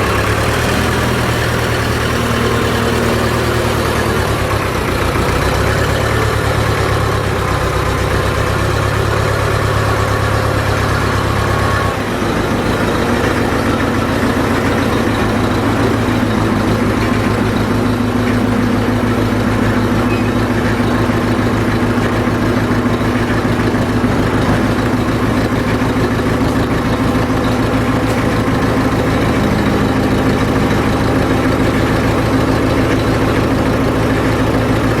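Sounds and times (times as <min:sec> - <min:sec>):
backhoe engine idling: 0:00.0 - 0:35.0.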